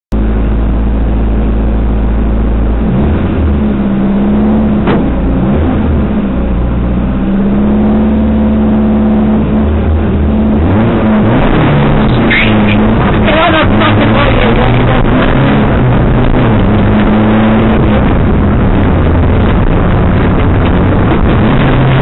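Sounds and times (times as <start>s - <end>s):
race car engine revving at idle: 0.2s - 22.0s.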